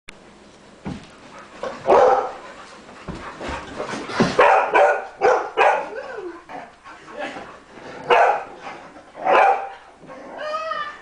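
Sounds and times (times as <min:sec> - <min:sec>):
dogs barking in play: 0:01.2 - 0:11.0.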